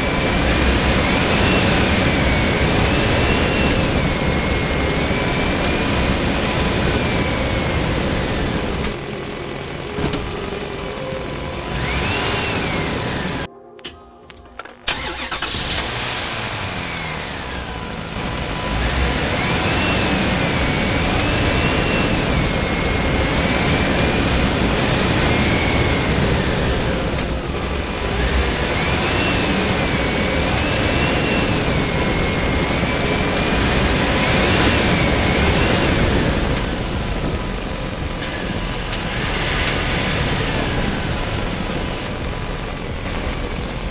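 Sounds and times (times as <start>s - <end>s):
truck engine rumbling and whining: 0.0s - 43.9s.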